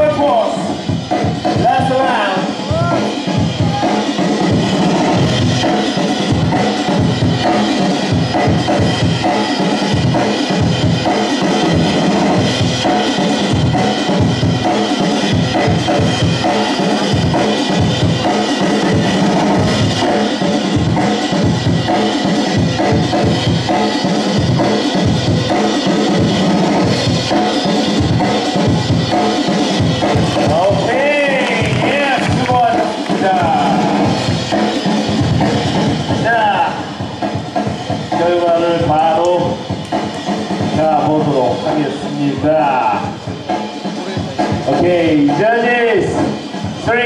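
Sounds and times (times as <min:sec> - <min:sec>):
breakbeat drum music: 0:00.0 - 0:47.0.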